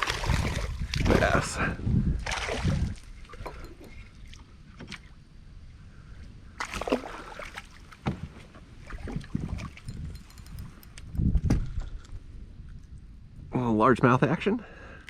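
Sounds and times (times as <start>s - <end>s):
wind rumbling on microphone: 0.0s - 14.4s.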